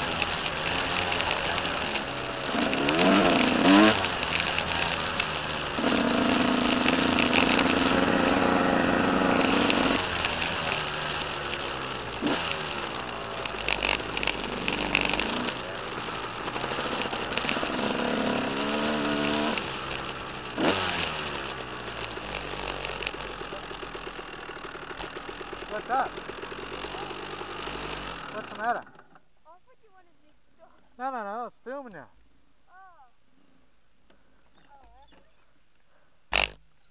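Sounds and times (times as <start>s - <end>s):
dirt bike engines revving: 0.0s - 29.3s, 34.6s - 36.9s.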